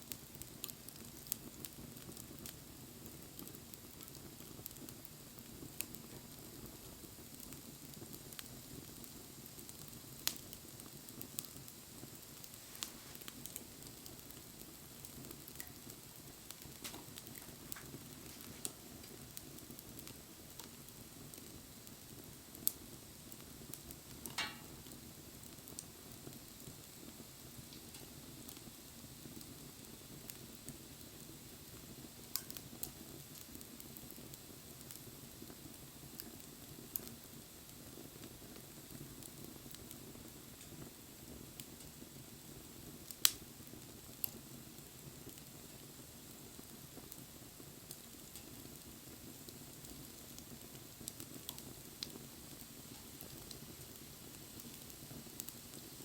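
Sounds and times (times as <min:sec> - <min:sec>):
campfire crackling and hissing: 0:00.0 - 0:56.0.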